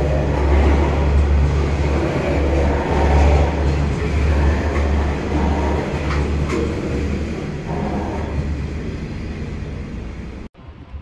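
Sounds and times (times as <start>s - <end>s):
wheels clicking over rail joints: 0.0s - 10.5s
freight train rolling past: 0.0s - 11.0s.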